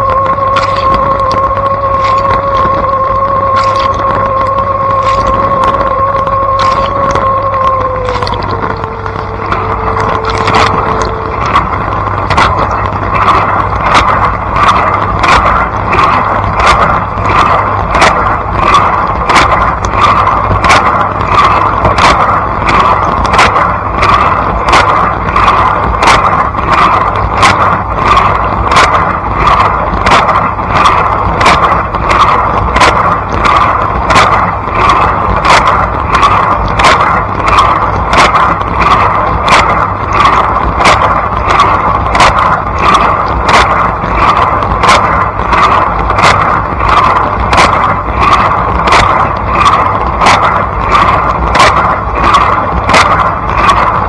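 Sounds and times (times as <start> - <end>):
dishwasher pump hum: 0.0 - 54.0
spray arms swishing water: 0.0 - 54.0.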